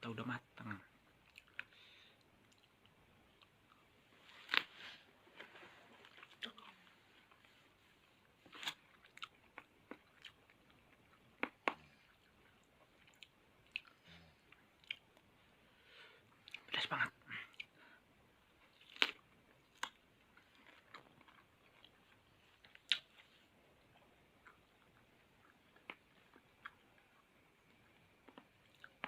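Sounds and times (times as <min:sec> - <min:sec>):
person chewing with crisp crunches: 0:01.0 - 0:15.3, 0:18.5 - 0:29.0.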